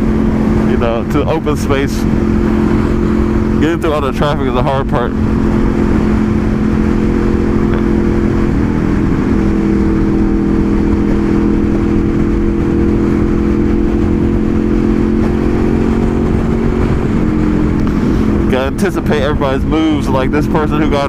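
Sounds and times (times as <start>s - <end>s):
motorcycle engine cruising: 0.0s - 21.0s
wind rumble on microphone: 0.0s - 21.0s.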